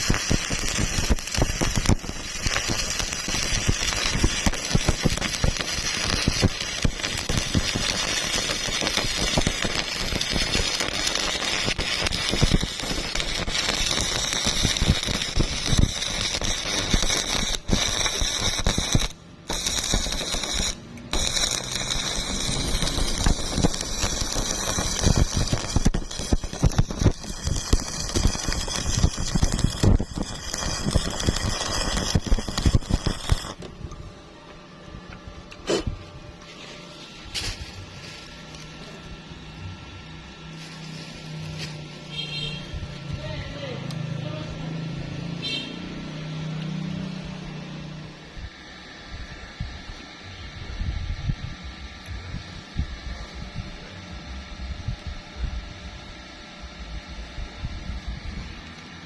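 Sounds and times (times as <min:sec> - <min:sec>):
welding arc crackling: 0:00.0 - 0:34.0, 0:36.6 - 0:59.0.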